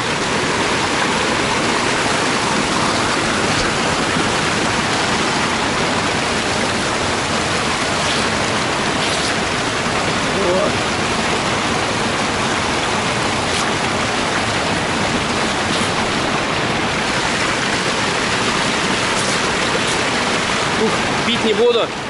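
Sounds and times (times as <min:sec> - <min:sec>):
water rushing over rocks: 0:00.0 - 0:22.0.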